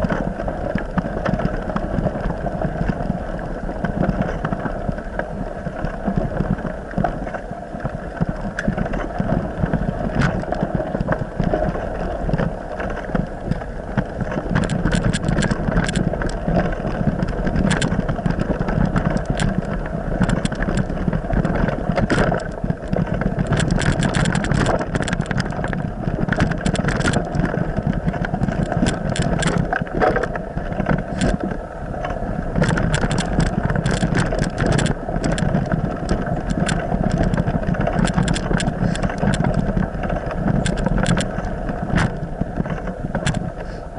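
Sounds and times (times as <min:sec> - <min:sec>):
sharp clicks and rattles: 0:00.0 - 0:43.8.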